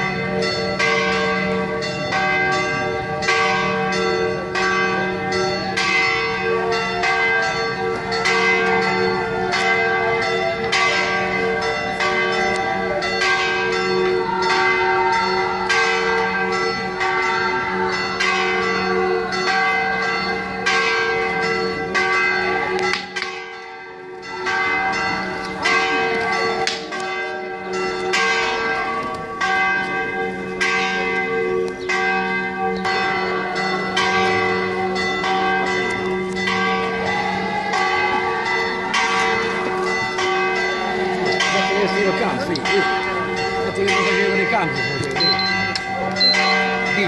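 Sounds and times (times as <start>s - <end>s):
church bells pealing: 0.0s - 47.0s.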